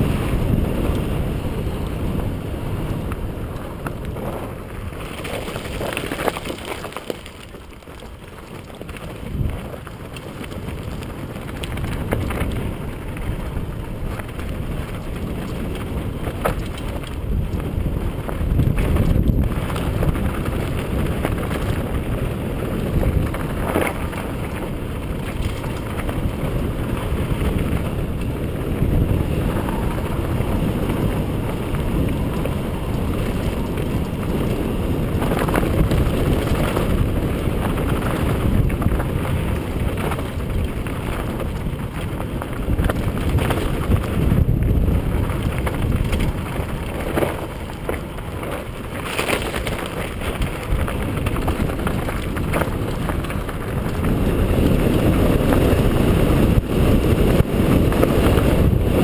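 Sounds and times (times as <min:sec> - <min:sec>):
bike tyres rolling on gravel: 0:00.0 - 0:59.0
wind buffeting microphone: 0:00.0 - 0:59.0
bike knocking on rocks: 0:03.1 - 0:58.8.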